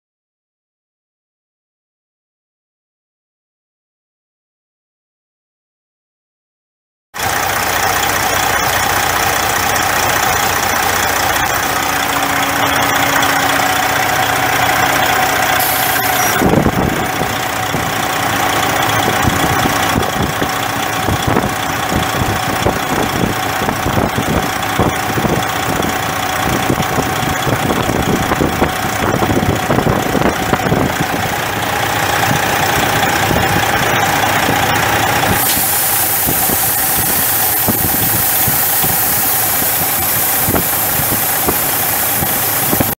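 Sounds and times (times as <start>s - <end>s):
diesel truck engine idling: 7.2s - 42.9s.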